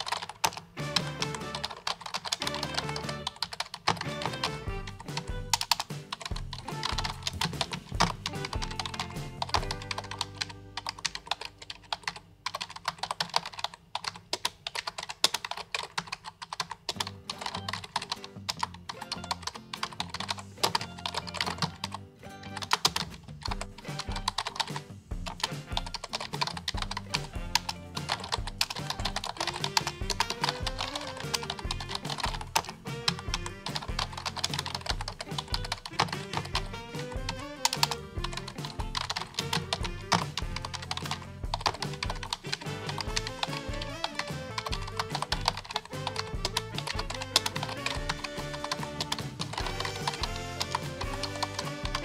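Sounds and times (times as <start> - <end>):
background music with steady beat: 0.0 - 12.8, 16.9 - 52.0
rapid keyboard typing: 0.0 - 52.0.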